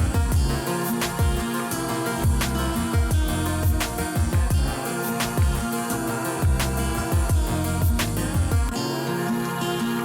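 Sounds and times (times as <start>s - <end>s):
pulsing bass beat: 0.0s - 8.7s
strummed guitar instrumental: 0.0s - 10.0s.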